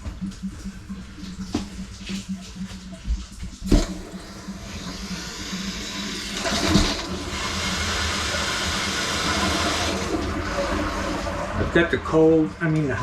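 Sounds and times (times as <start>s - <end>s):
tap water rushing into a tub: 0.0s - 13.0s.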